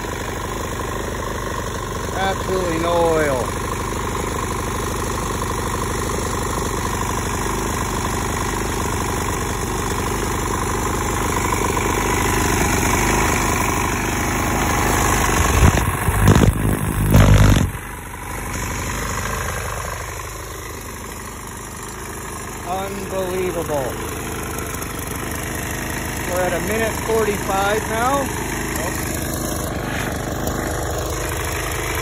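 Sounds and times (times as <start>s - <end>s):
lawn mower engine running: 0.0s - 32.0s.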